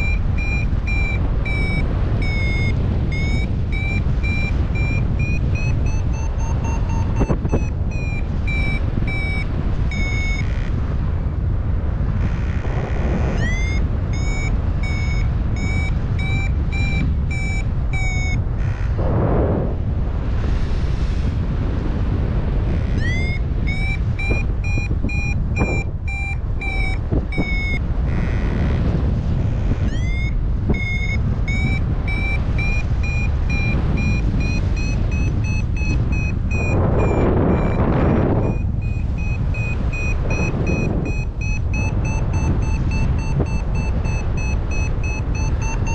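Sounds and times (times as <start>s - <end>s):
variometer beeps: 0.0s - 11.2s, 12.1s - 19.0s, 22.6s - 45.9s
wind rumble on microphone: 0.0s - 45.9s.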